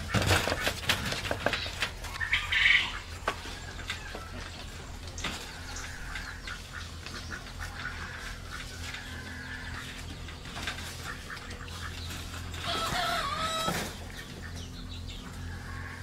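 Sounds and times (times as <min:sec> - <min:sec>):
poultry calling: 0:00.0 - 0:16.0.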